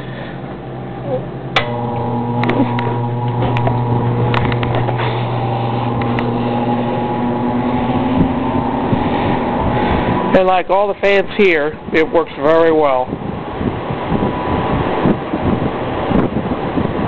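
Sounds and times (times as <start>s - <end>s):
electric fan motor humming: 0.0s - 17.0s.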